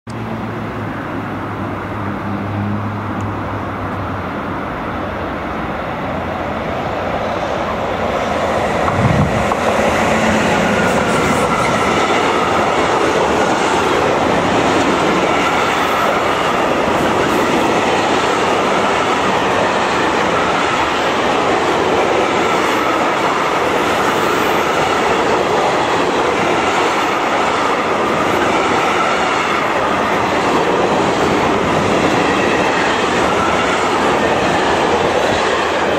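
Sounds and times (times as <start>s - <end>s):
freight train rumbling past: 0.1s - 35.9s.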